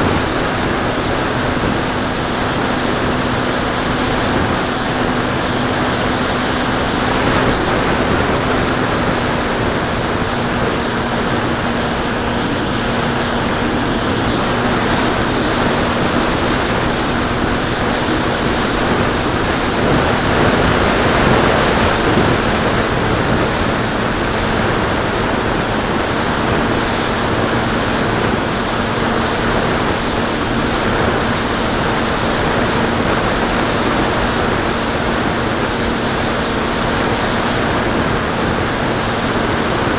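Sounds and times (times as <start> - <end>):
electric motor and propeller: 0.0 - 39.9
steady low hum: 0.0 - 39.9
wind rushing over microphone: 0.0 - 39.9.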